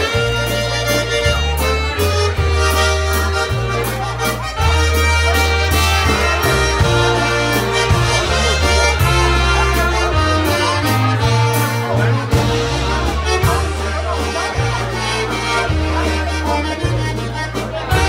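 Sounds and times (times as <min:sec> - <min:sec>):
accordion: 0:00.0 - 0:18.0
polka band playing a waltz: 0:00.0 - 0:18.0.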